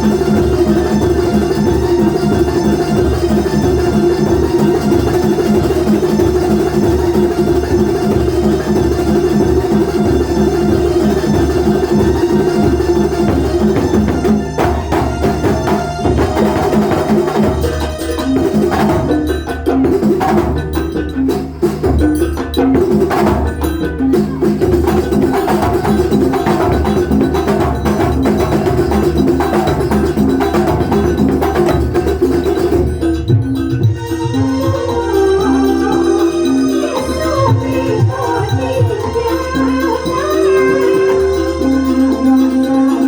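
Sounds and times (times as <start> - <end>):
hand percussion rhythm: 0.0 - 43.0
sustained melodic instruments: 0.0 - 43.0.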